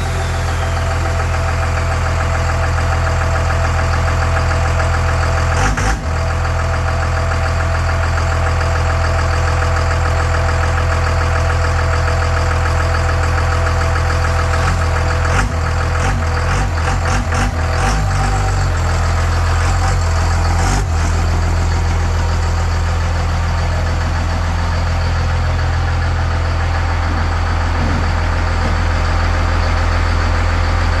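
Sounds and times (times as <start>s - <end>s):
diesel engine idling: 0.0s - 31.0s
engine knocks: 0.0s - 31.0s.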